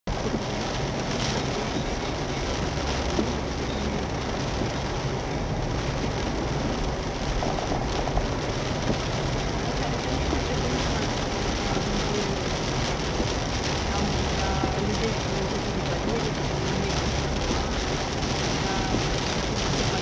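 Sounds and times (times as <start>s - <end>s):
heavy rain on car roof: 0.1s - 20.0s.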